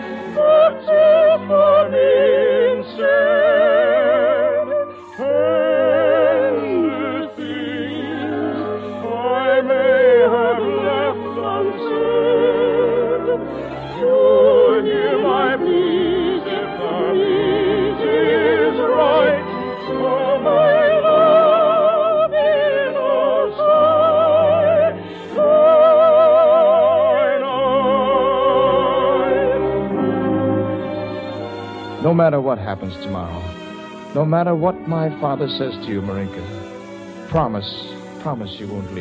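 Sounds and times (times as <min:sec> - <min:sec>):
old radio orchestra music: 0:00.0 - 0:39.0.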